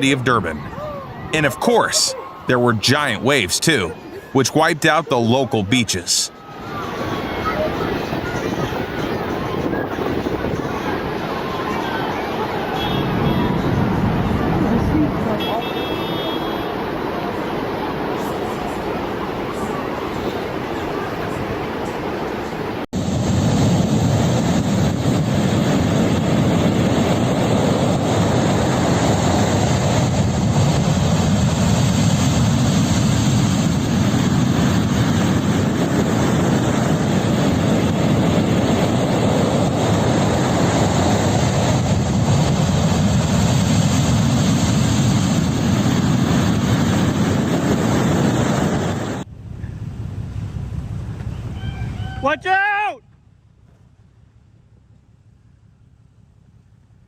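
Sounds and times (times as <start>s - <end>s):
storm wind roaring: 0.0s - 15.4s, 16.7s - 52.2s
heavy sea: 0.0s - 52.9s.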